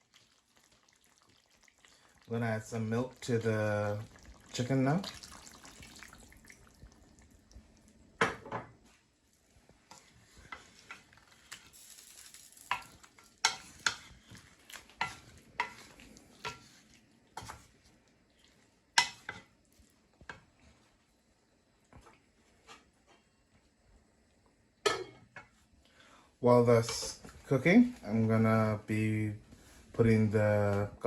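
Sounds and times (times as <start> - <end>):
faint sizzle: 0.0 - 31.0.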